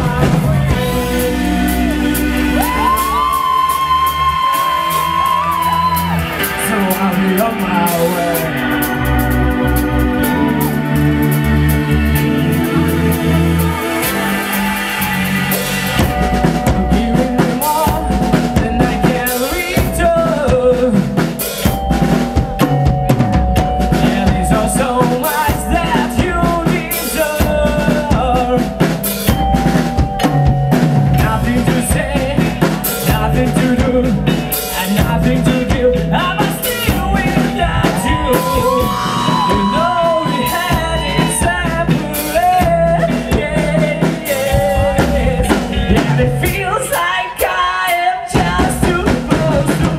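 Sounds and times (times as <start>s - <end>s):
bass line: 0.0s - 49.9s
drum kit beat: 0.0s - 49.9s
sliding melodic lead line: 0.0s - 49.9s.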